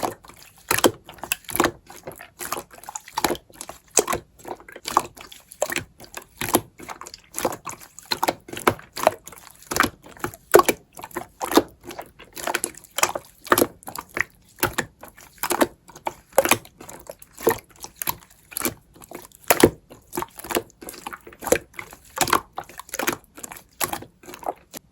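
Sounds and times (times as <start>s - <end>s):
slime squishing by hand: 0.0s - 24.9s.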